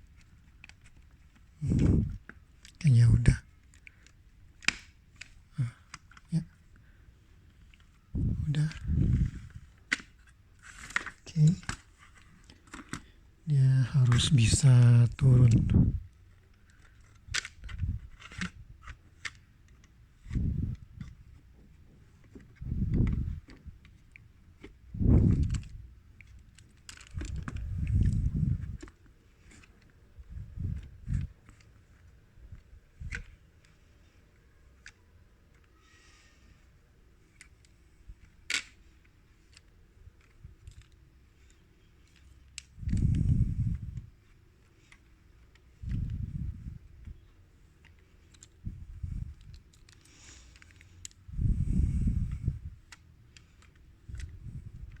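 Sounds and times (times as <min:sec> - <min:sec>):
small parts clicking and scraping: 0:07.5 - 0:13.2, 0:16.4 - 0:55.0.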